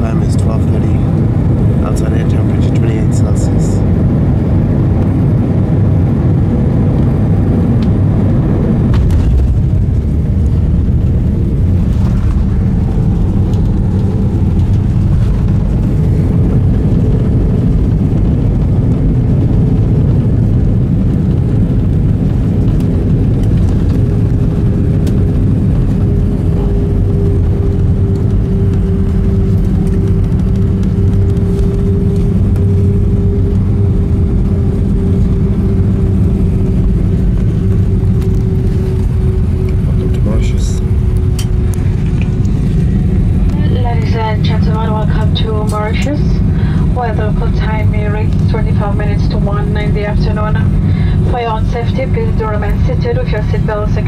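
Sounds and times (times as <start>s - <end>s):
aircraft cabin engine rumble: 0.0s - 54.0s
humming tone: 4.0s - 54.0s.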